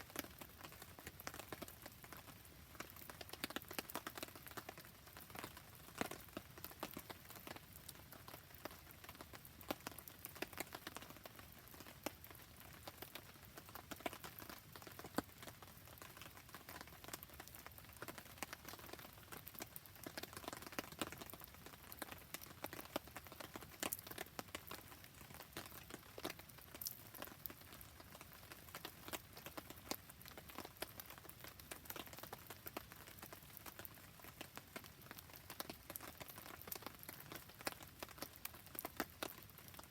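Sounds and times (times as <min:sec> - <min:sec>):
rain patter: 0:00.0 - 0:39.9
campfire popping and crackling: 0:00.1 - 0:39.9.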